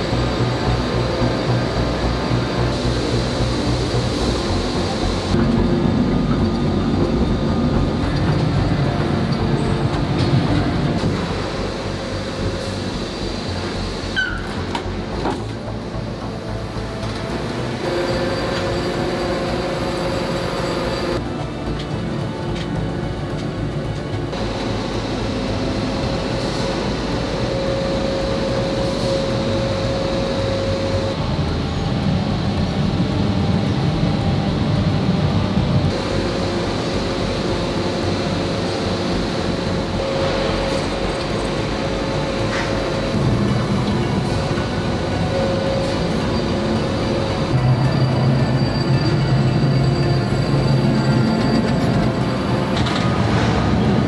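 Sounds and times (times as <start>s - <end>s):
industrial machinery rumbling: 0.0s - 54.0s.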